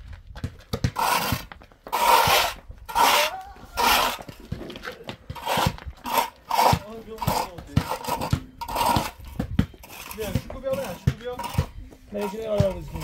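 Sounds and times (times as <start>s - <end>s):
hand tool scraping cement: 0.9s - 13.0s.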